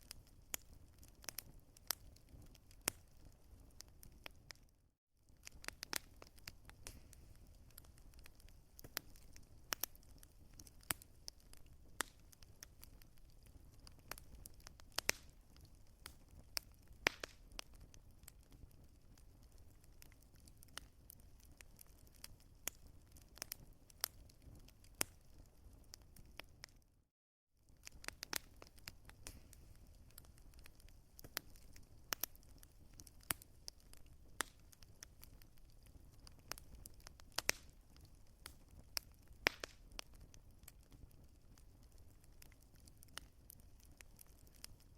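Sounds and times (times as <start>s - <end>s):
wood fire crackling: 0.0s - 26.9s, 27.6s - 44.9s.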